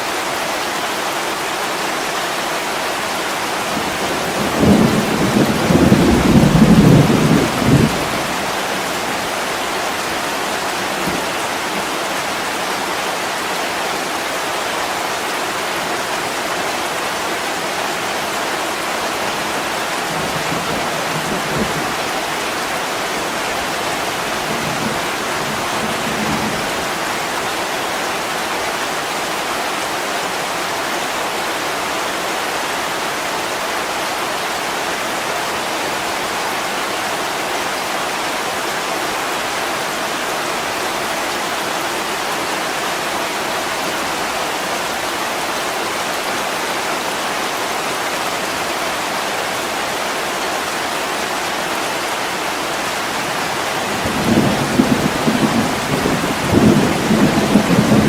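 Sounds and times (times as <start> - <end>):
heavy rain on a window: 0.0 - 58.0.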